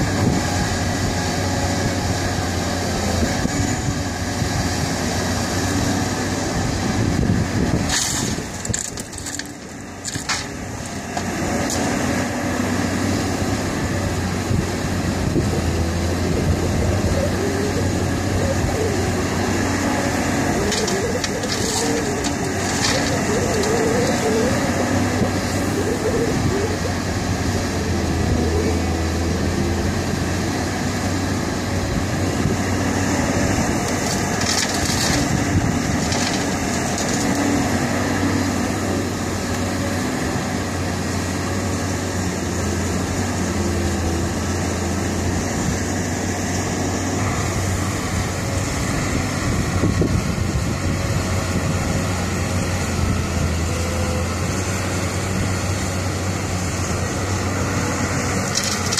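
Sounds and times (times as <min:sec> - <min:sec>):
excavator diesel engine running: 0:00.0 - 0:58.9
hydraulic working noise: 0:00.0 - 0:58.9.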